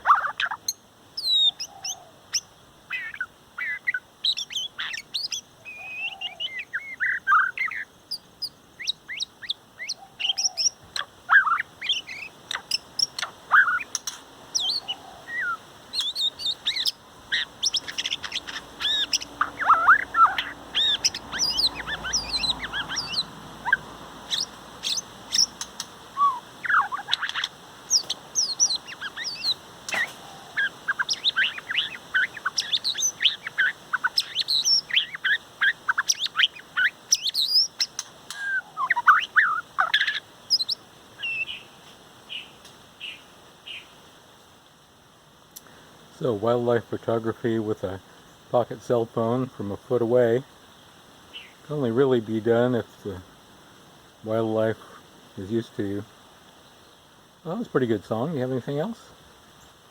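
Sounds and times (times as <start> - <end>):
bird singing: 0.0 - 44.0, 46.2 - 53.2.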